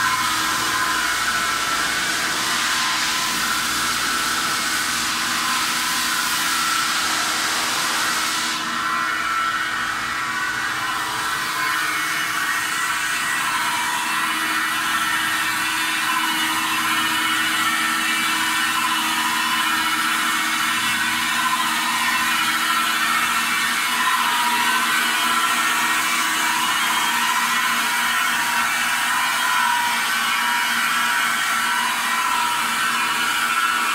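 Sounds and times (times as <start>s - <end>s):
polishing machine grinding metal: 0.0s - 33.9s.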